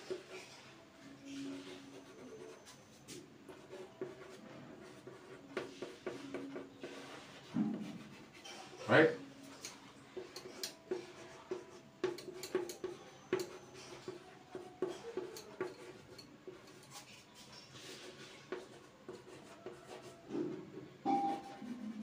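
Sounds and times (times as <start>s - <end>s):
chalk writing on board: 0.0s - 20.4s, 21.1s - 22.0s
chalk squeaks: 0.1s - 20.3s, 21.1s - 22.0s.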